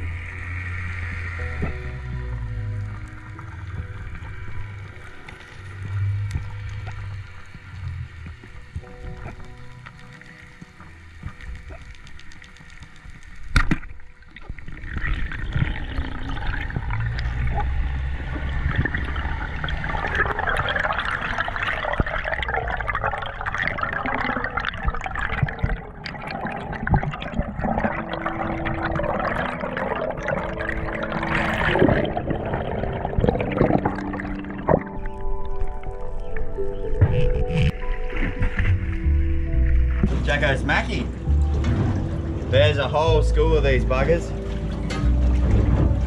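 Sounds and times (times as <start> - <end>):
underwater rushing water: 0.0 - 46.0.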